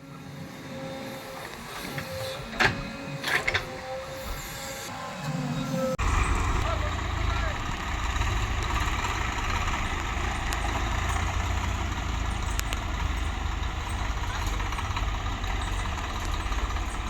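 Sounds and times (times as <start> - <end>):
diesel engine running: 0.6 - 17.0.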